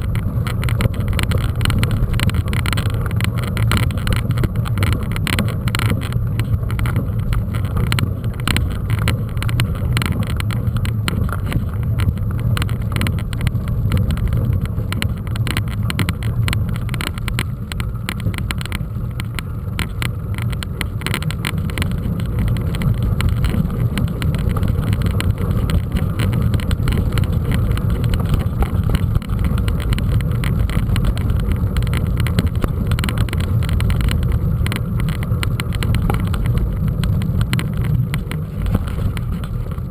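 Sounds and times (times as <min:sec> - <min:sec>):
bike tyres rolling over rough ground: 0:00.0 - 0:39.9.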